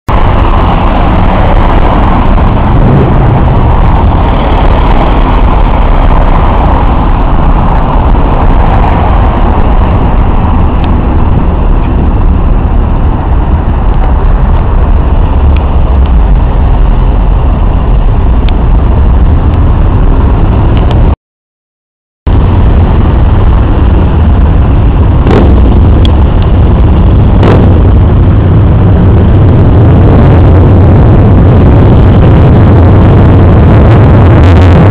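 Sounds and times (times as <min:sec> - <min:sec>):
road traffic rumble: 0:00.1 - 0:21.2, 0:22.3 - 0:34.9.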